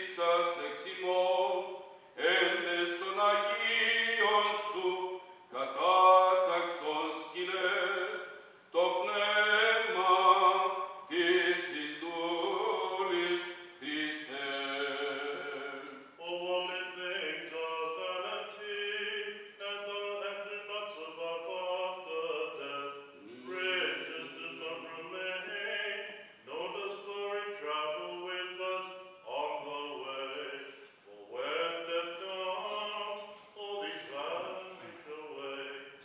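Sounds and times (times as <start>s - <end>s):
man chanting prayers: 0.0s - 36.0s.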